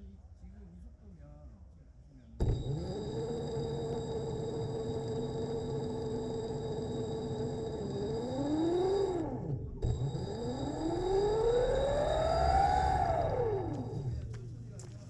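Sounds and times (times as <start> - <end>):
electric motor whining: 2.4 - 15.0.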